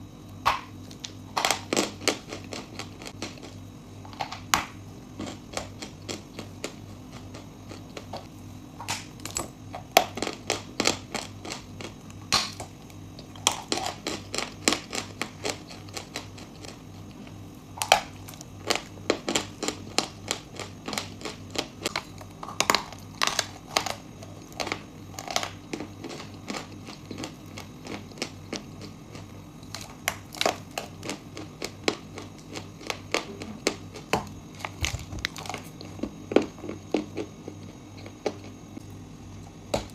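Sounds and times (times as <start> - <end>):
crunchy chewing close up: 0.2 - 39.6.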